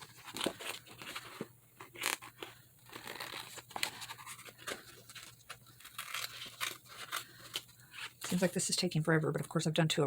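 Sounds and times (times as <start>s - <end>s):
paper rustling: 0.0s - 9.5s.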